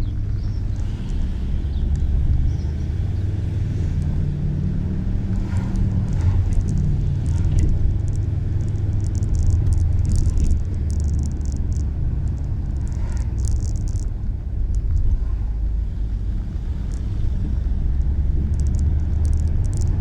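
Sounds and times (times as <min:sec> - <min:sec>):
engine running with low drone: 0:00.0 - 0:20.0.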